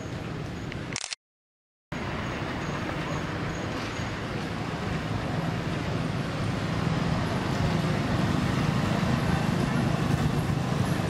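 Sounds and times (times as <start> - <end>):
road traffic hum: 0.0 - 1.0, 1.9 - 11.0
vehicle engine drone: 2.0 - 11.0.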